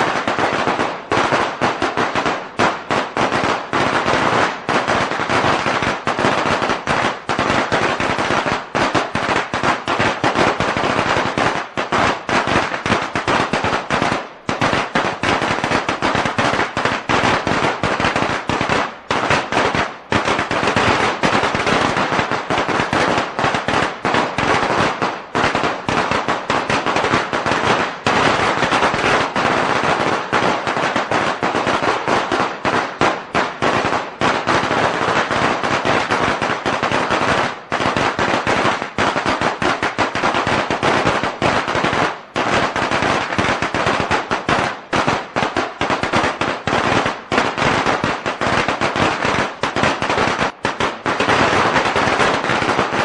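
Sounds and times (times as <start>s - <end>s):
firecrackers cracking: 0.0s - 53.0s.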